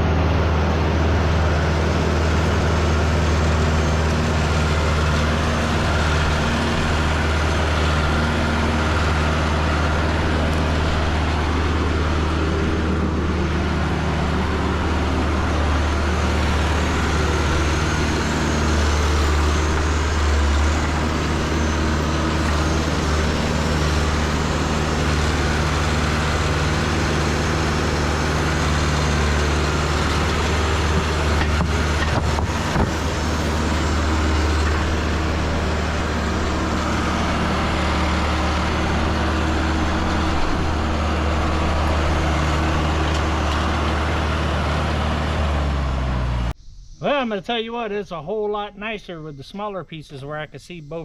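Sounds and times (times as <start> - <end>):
tractor engine running under load: 0.0 - 46.6.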